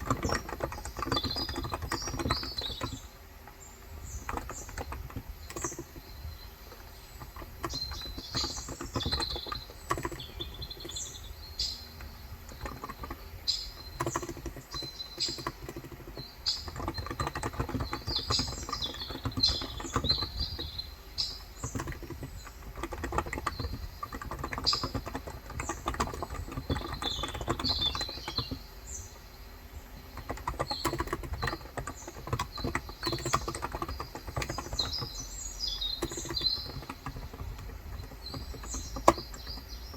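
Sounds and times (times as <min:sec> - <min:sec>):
small birds chirping: 0:00.0 - 0:39.9
soft keyboard typing: 0:00.0 - 0:39.9.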